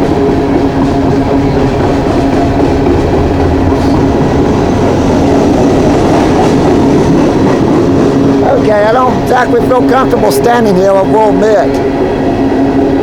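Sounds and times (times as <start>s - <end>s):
freight train wheels clattering: 0.0s - 13.0s.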